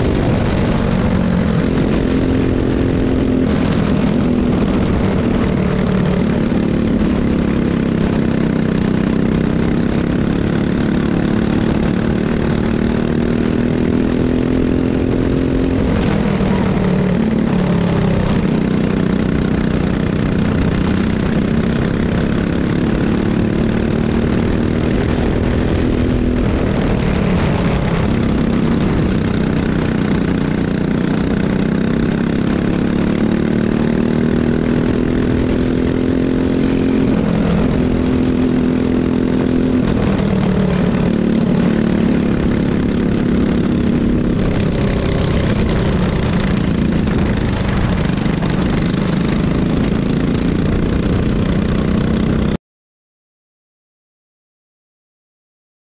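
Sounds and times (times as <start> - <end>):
kart engine revving: 0.0 - 52.6.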